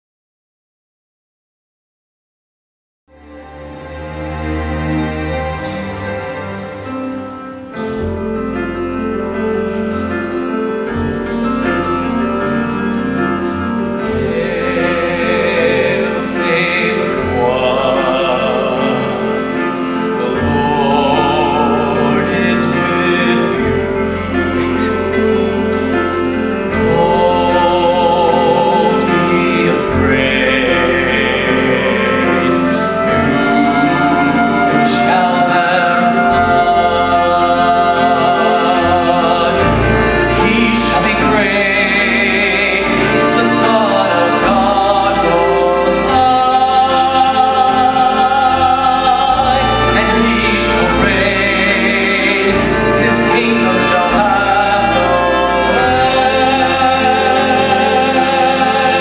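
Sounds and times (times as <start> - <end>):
instrumental accompaniment: 3.1 - 59.0
man singing a ballad: 10.9 - 59.0.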